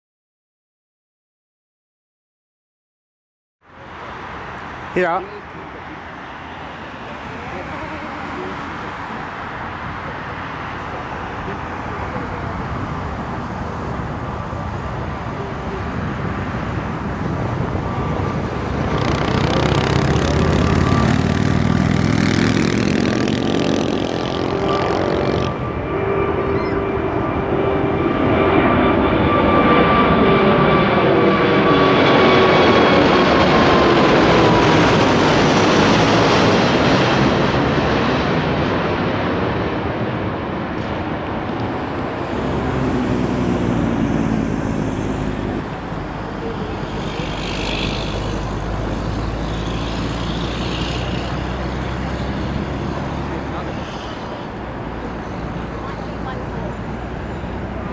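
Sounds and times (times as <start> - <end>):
jet aircraft roar overhead: 3.6 - 57.9
jet engine whine: 3.7 - 57.9.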